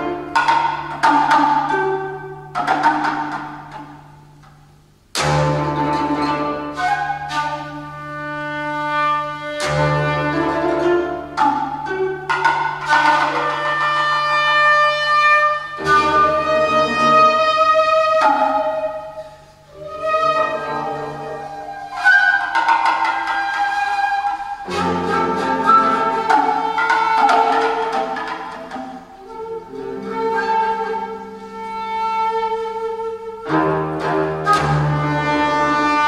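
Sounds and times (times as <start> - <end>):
shakuhachi held notes: 0.0 - 4.0, 5.2 - 36.0
hand drum: 0.0 - 36.0
koto plucks: 0.0 - 36.0.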